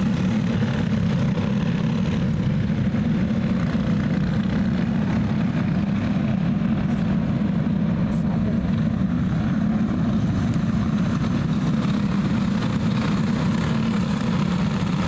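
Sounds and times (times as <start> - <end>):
racing kart engines droning: 0.0 - 15.0.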